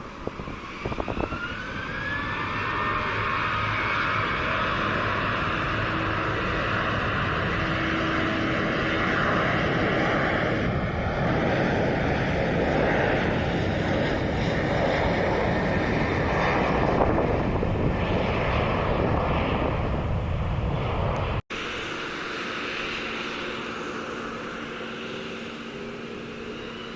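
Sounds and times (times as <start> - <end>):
jet engines roaring at takeoff: 0.0 - 26.9.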